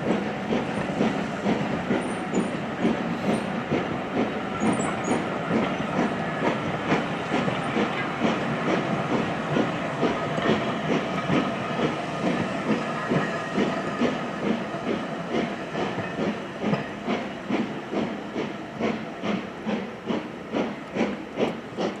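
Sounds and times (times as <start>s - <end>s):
steam hissing: 0.0s - 22.0s
steam locomotive chuffing: 0.0s - 22.0s.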